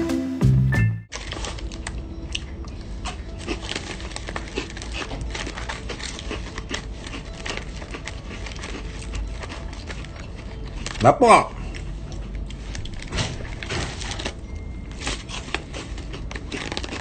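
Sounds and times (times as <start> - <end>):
packaging pouch crinkling: 1.1 - 11.0, 11.6 - 17.0.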